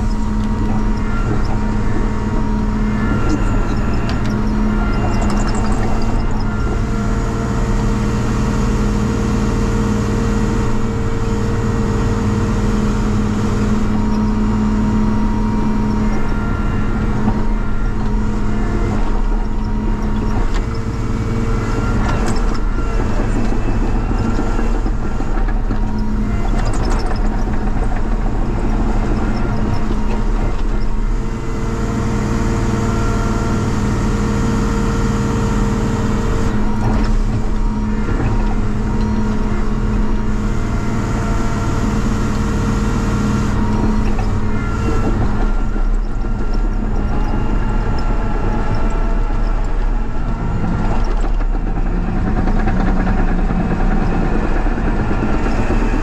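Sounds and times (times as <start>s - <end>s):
diesel engine with broken muffler: 0.0s - 56.0s.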